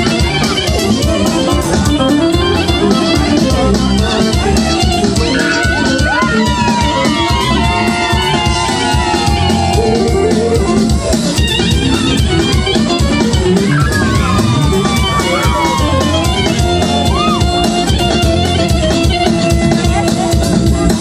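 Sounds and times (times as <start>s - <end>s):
dance music with drum beat: 0.0s - 21.0s
sliding lead melody: 0.0s - 21.0s.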